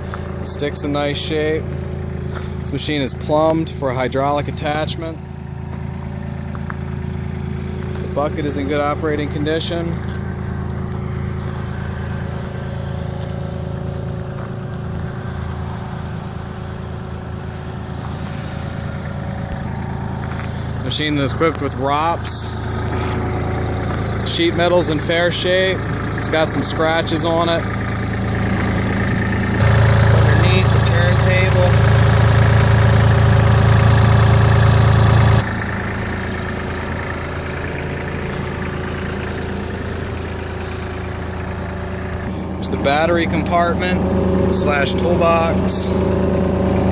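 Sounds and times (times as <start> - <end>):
excavator diesel engine idling: 0.0 - 46.9.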